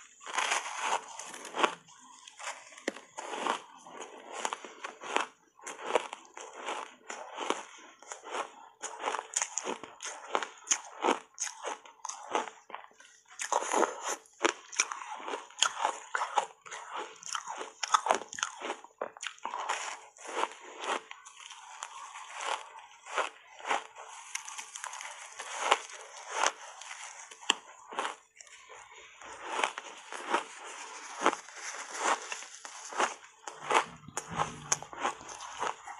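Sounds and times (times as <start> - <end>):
ice being bitten and chewed: 0.0 - 35.9.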